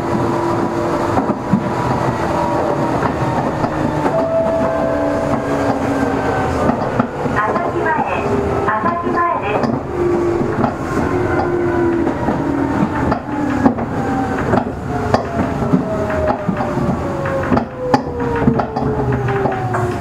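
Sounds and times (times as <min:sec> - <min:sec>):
train running rumble: 0:00.0 - 0:20.0
wheels clicking on rails: 0:00.0 - 0:20.0.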